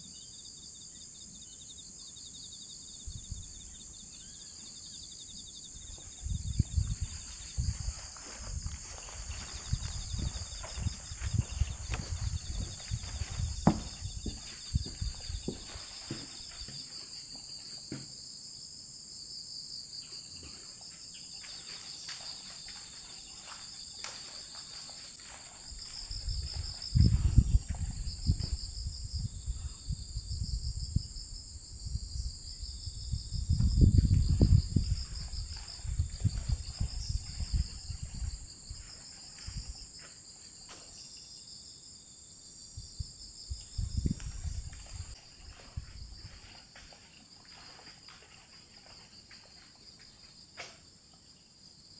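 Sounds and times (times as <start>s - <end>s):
insects chirring: 0.0s - 51.9s.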